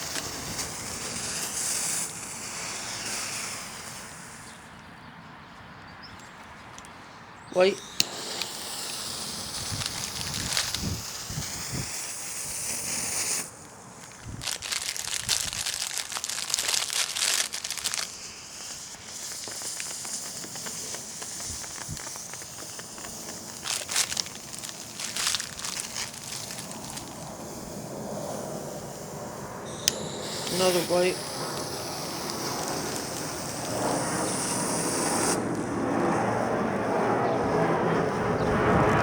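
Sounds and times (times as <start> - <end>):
smoke firework crackling hiss: 0.0 - 4.7, 7.6 - 38.5.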